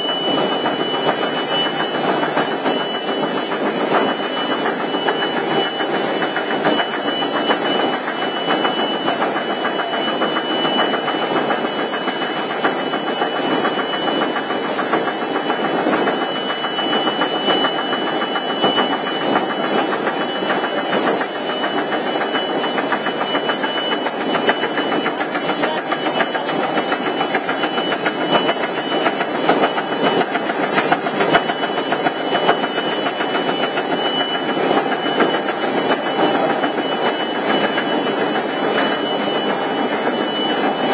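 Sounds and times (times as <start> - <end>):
high steady whine: 0.0 - 40.9
mechanical clatter of machine: 0.0 - 40.9.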